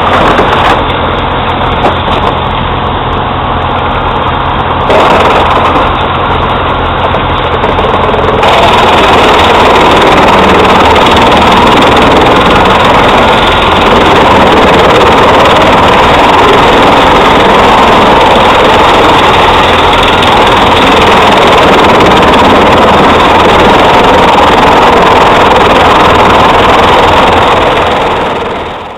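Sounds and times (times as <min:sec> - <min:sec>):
drum chipper running: 0:00.0 - 0:28.9.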